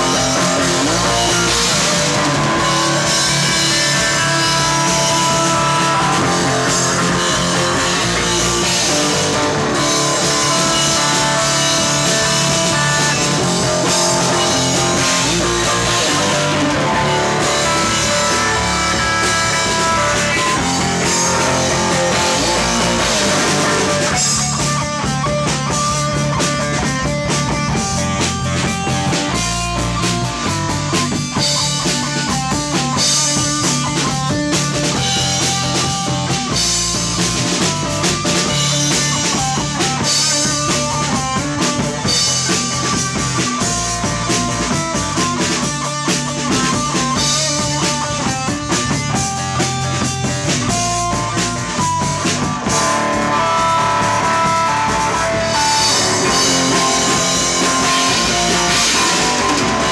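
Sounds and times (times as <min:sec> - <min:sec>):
drum kit: 0:00.0 - 0:59.9
electric bass: 0:00.0 - 0:59.9
electric guitar: 0:00.0 - 0:59.9.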